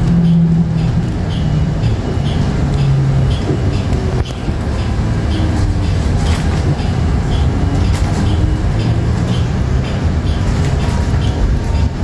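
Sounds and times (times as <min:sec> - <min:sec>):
light ticking: 0:00.0 - 0:12.0
low road rumble: 0:00.0 - 0:12.0.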